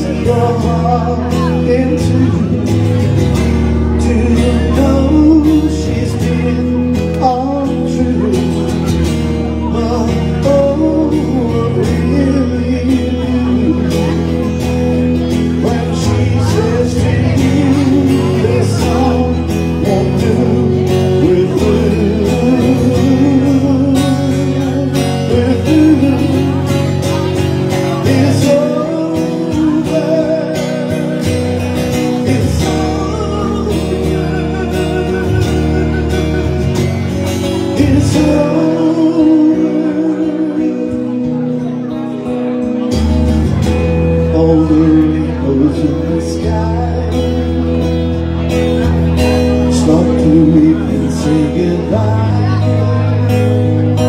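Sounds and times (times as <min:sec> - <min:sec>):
amplified electric guitar: 0:00.0 - 0:54.0
low bass notes: 0:00.0 - 0:54.0
man singing: 0:00.0 - 0:54.0.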